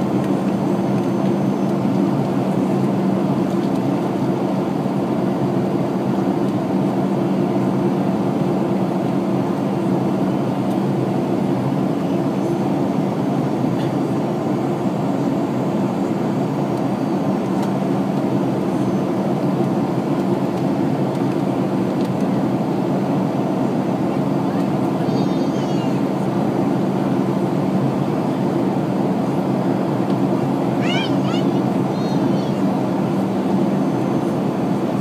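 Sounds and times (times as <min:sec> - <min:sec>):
aircraft engines droning: 0:00.0 - 0:35.0.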